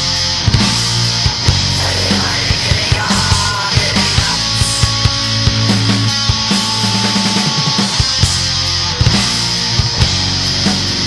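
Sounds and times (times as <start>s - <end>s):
bass guitar: 0.0s - 11.0s
distorted electric guitar: 0.0s - 11.0s
drums: 0.0s - 11.0s.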